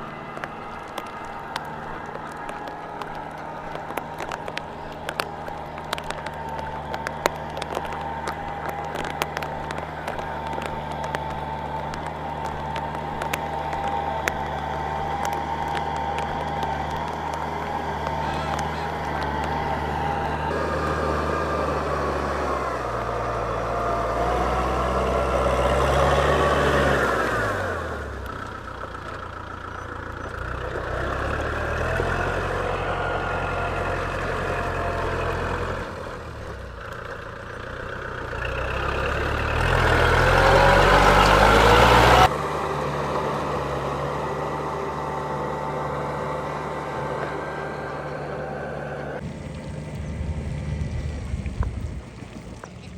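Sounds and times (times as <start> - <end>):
motor engine running: 0.0 - 52.9.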